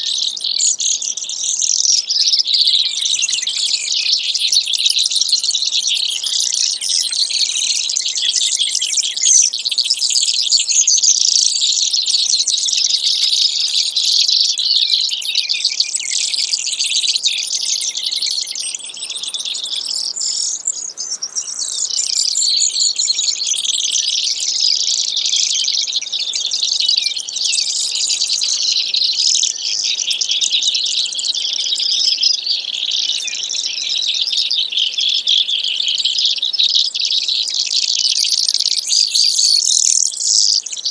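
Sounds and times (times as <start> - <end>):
sparrow song trills and chips: 0.0 - 40.9.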